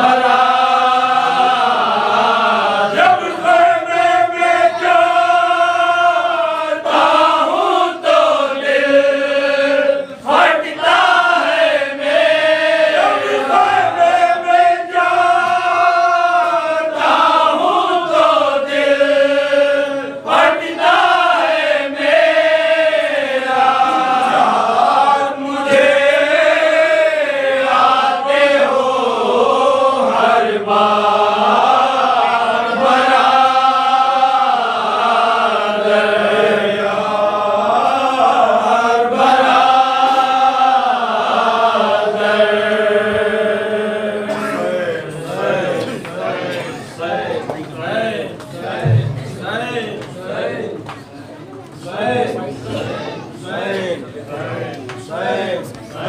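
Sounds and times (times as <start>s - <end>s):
men chanting a mourning lament: 0.0s - 50.8s.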